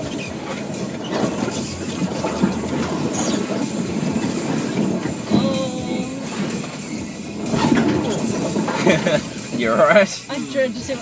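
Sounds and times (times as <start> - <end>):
branches scraping car body: 0.0 - 10.6.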